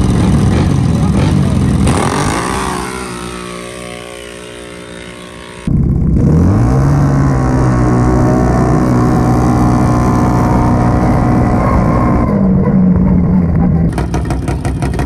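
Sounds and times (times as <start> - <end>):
atv engine pulling away: 0.0 - 15.0
quad engine running close: 0.0 - 15.0.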